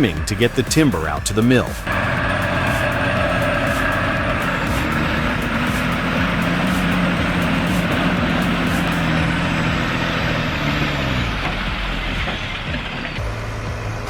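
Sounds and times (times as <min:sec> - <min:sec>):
diesel truck engine under load: 0:00.0 - 0:14.0.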